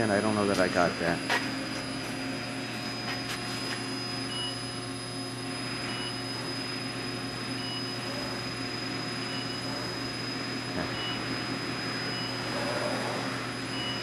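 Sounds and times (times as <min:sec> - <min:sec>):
milling machine motor hum: 0:00.0 - 0:14.0.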